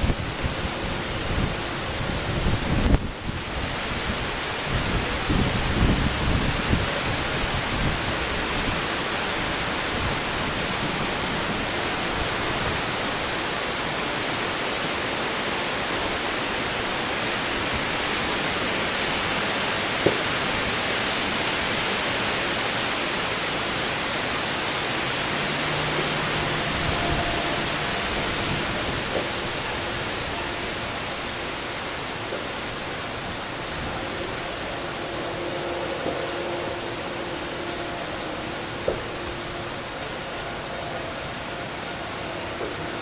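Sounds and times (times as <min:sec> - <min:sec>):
steady rushing hiss: 0:00.0 - 0:43.0.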